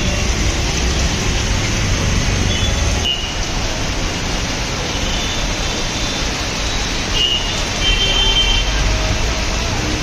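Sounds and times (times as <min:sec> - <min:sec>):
heavy rain pouring: 0:00.0 - 0:10.0
street traffic: 0:00.0 - 0:10.0.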